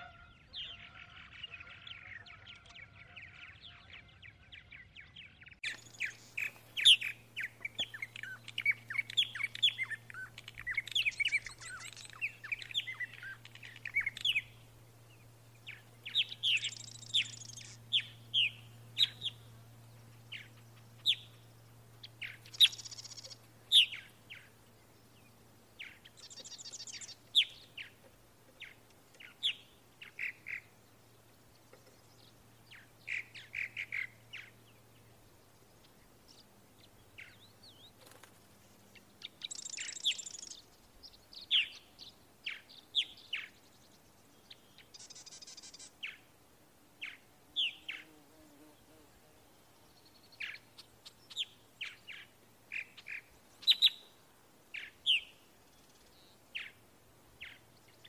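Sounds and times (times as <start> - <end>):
birds chirping: 0.0 - 46.3, 47.0 - 58.0
faint low hum: 0.0 - 58.0.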